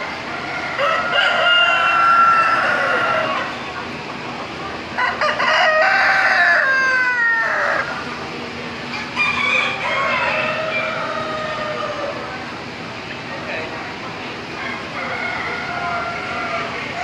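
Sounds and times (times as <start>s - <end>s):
roosters crowing: 0.0s - 3.9s, 4.8s - 12.6s, 14.4s - 17.0s.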